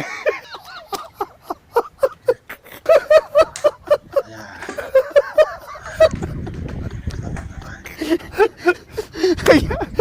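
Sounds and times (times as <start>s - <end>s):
person laughing: 0.0s - 10.0s.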